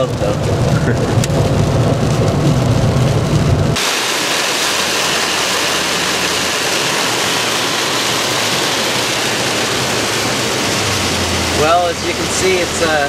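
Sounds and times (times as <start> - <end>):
rain on car roof: 0.0 - 13.0
road and engine rumble: 0.0 - 13.0.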